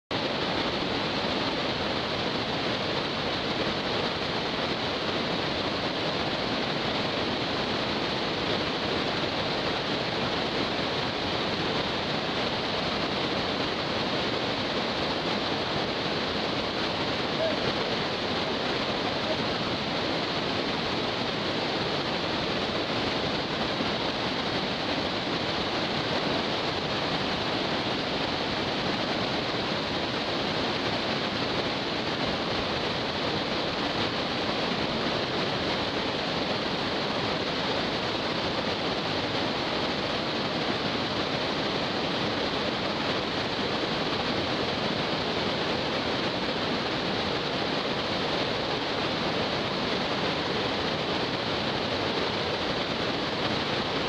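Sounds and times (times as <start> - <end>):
river rapids rushing: 0.1 - 54.0.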